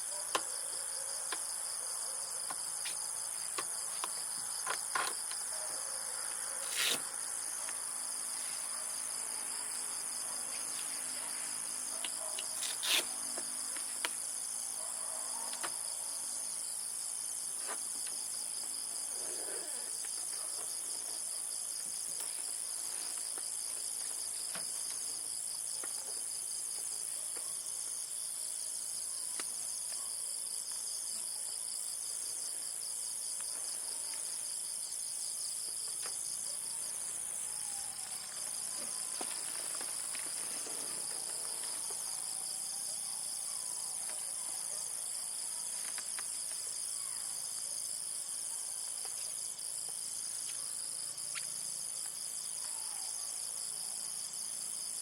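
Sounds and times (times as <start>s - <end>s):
insect chorus chirring: 0.0s - 55.0s.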